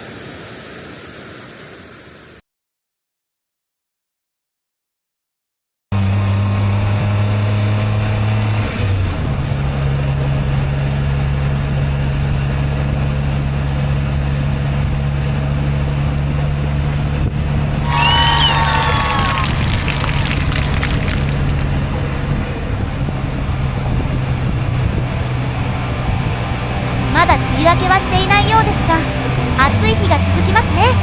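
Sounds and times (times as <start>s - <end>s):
car engine droning: 6.0s - 31.0s.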